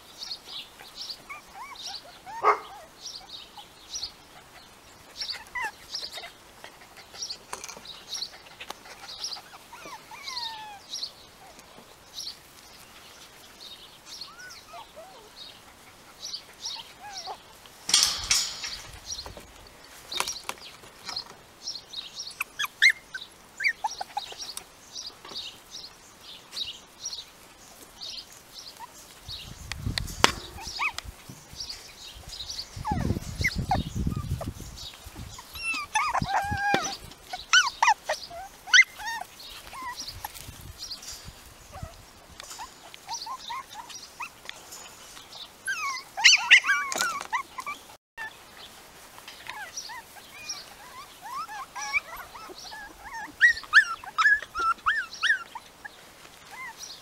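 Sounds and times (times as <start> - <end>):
puppies whimpering and yipping: 0.2 - 11.6, 12.2 - 19.6, 22.2 - 25.1, 28.1 - 48.4, 49.4 - 57.0.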